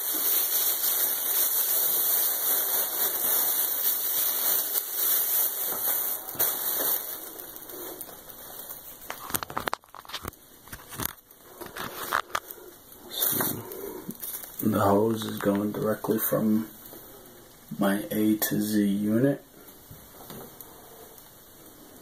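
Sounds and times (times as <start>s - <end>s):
plastic bag crinkling: 0.0s - 17.8s.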